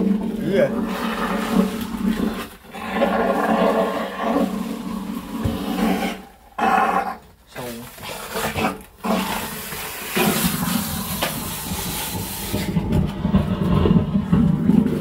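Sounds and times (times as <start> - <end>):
vacuum hose sucking sludge: 0.0 - 15.0.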